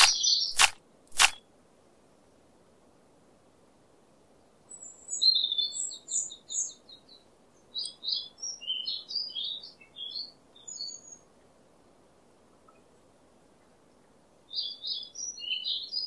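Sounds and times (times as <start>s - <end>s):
songbird singing: 0.0s - 1.5s, 4.3s - 16.0s
faint steady hiss: 0.0s - 16.0s.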